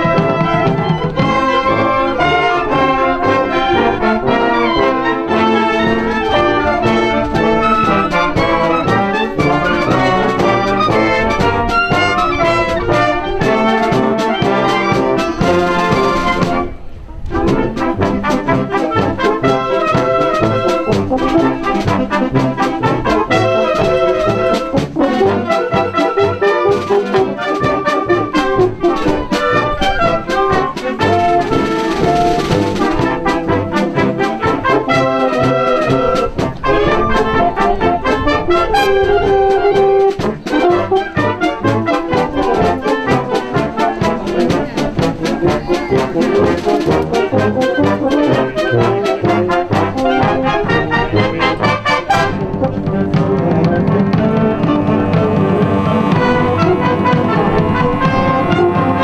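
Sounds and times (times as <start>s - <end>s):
wind band playing: 0.0s - 59.0s.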